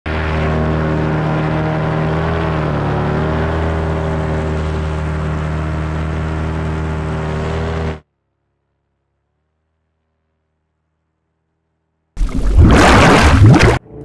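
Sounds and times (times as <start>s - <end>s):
paramotor engine and propeller: 0.1s - 12.2s.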